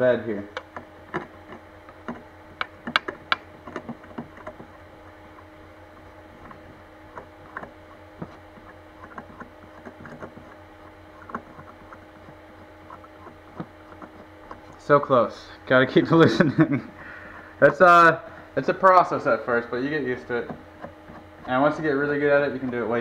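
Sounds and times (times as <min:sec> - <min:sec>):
steady low hum: 0:00.0 - 0:23.0
knobs clicking and tapping: 0:00.5 - 0:14.9, 0:17.6 - 0:23.0.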